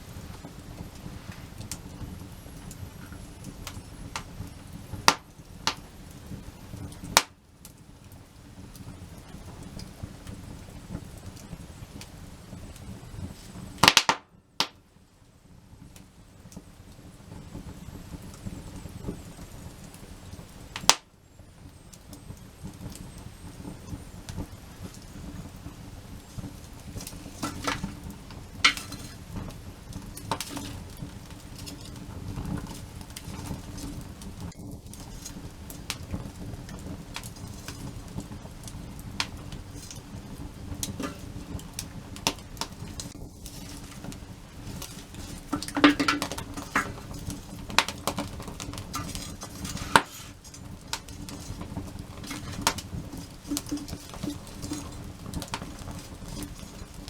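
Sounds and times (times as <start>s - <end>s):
loud snap of fire: 0.0s - 15.0s, 15.8s - 57.0s
wood fire crackling: 0.0s - 57.0s.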